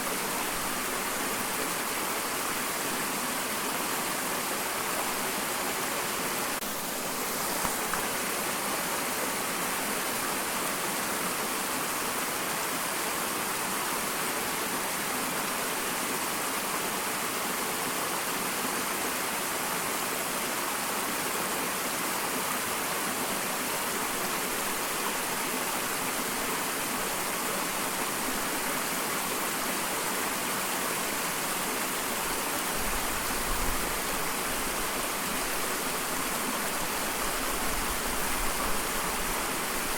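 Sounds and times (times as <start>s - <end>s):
water rushing in waterfall: 0.0s - 39.9s.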